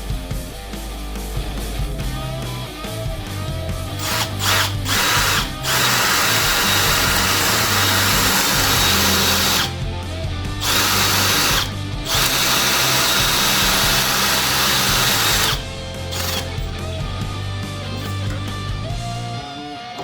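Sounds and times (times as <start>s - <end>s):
electric drill running: 3.9s - 20.0s.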